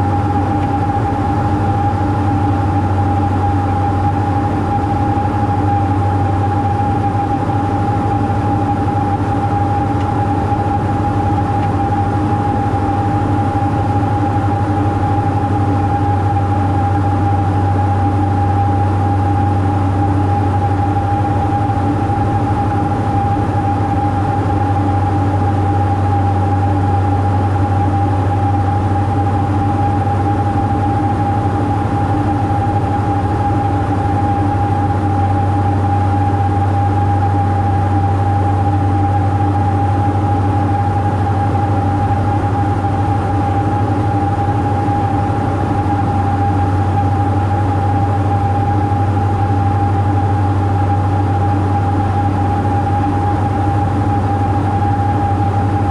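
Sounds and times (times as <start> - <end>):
aircraft engines droning in cockpit: 0.0 - 55.9.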